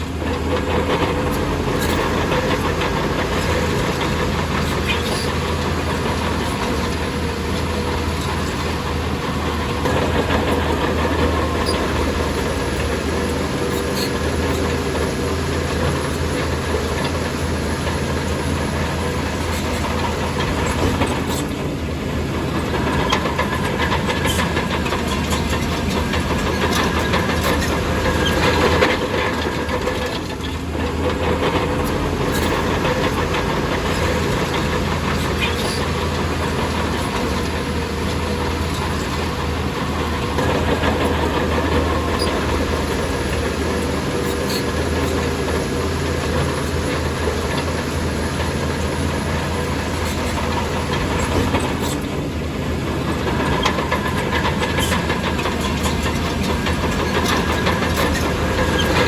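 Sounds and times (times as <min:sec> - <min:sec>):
bulldozer diesel engine: 0:00.0 - 0:59.0
steel tracks clanking: 0:00.0 - 0:59.0.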